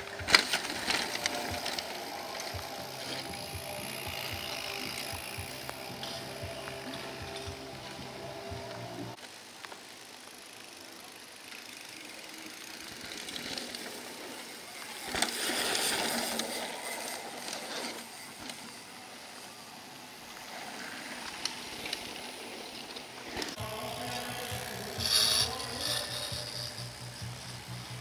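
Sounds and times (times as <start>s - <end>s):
bike tyres rolling over dirt: 0.0s - 28.0s.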